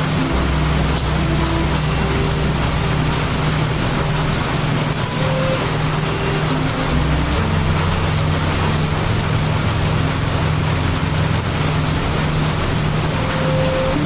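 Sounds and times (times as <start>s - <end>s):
deep brown noise rumble: 0.0s - 14.0s
heavy rain: 0.0s - 14.0s.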